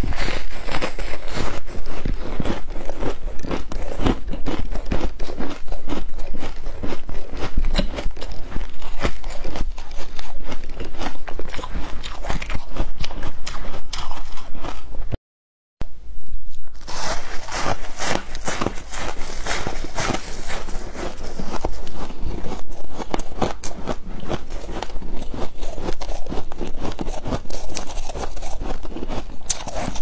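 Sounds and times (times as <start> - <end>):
person crunching ice: 0.0 - 14.9, 16.8 - 30.0.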